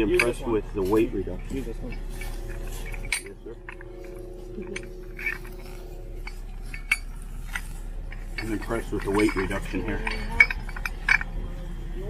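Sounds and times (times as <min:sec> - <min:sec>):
metal rigging hardware clinking: 0:00.0 - 0:12.0
steady hum: 0:00.0 - 0:12.0.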